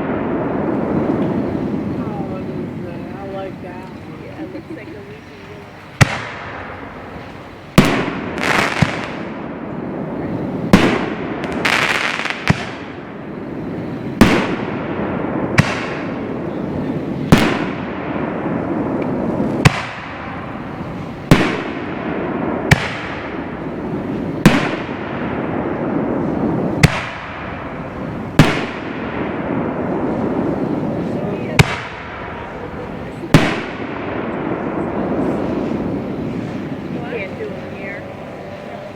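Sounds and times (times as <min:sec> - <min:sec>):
firework shells booming: 0:00.0 - 0:38.2
rolling echo: 0:00.0 - 0:38.9.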